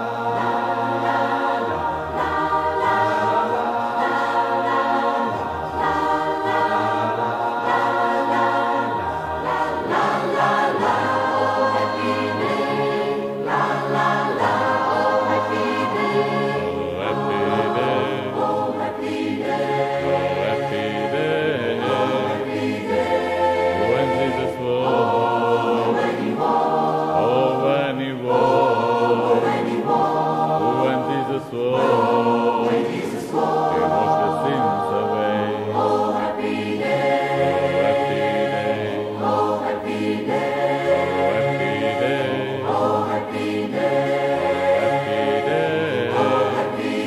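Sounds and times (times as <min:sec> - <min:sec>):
a cappella choir singing: 0:00.0 - 0:47.0.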